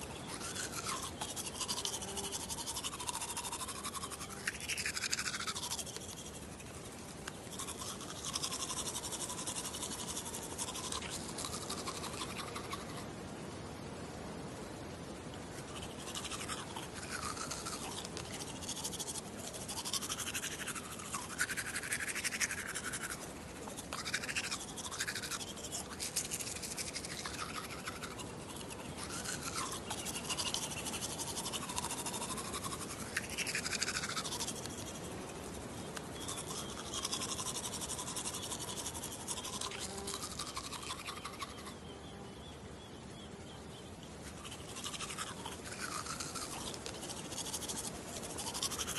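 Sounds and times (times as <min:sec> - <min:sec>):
toothbrush scrubbing teeth: 0:00.0 - 0:13.0, 0:15.6 - 0:41.8, 0:44.3 - 0:48.9.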